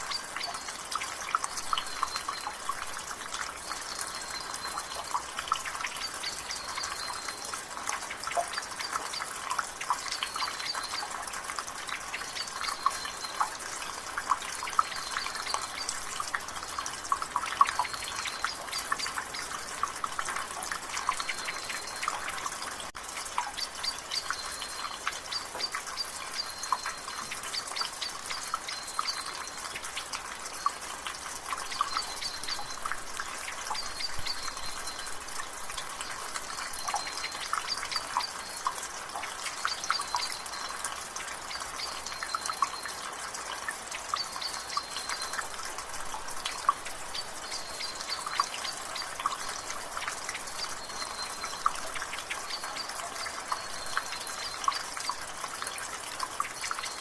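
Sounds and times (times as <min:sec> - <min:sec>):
water dripping from a gutter: 0:00.0 - 0:57.0.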